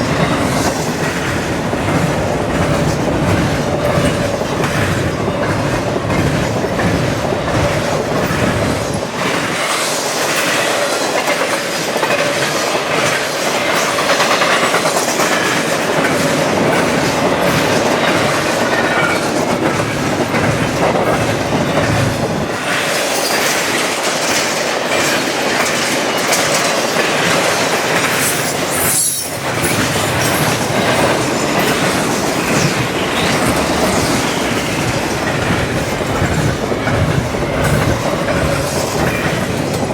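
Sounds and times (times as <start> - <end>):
freight train cars rolling: 0.0 - 39.9
wheels clicking over rail joints: 0.0 - 39.9.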